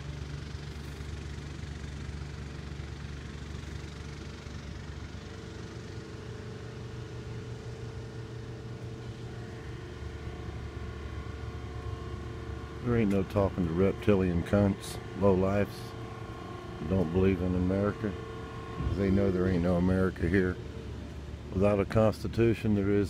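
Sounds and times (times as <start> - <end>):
held tones over hum: 0.0 - 23.0
low mechanical drone of machinery: 0.0 - 23.0.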